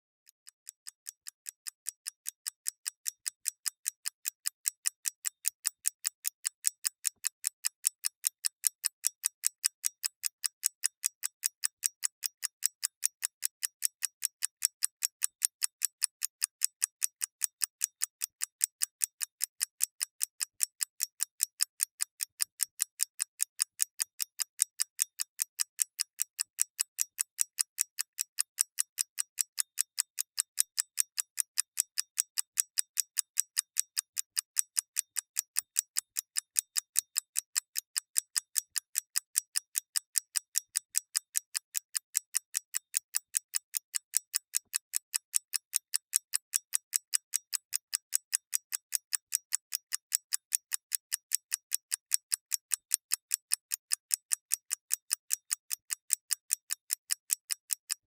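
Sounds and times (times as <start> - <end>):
mechanical clock ticking: 0.4 - 58.0.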